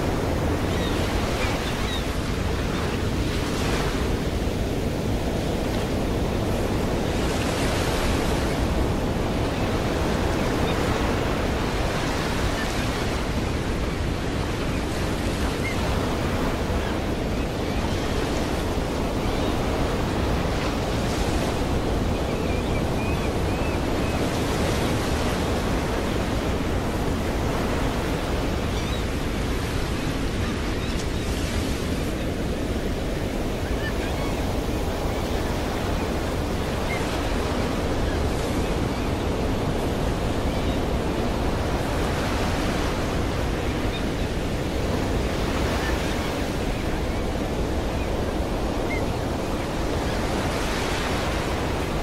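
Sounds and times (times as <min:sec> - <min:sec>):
ocean surf breaking on shore: 0:00.0 - 0:52.0.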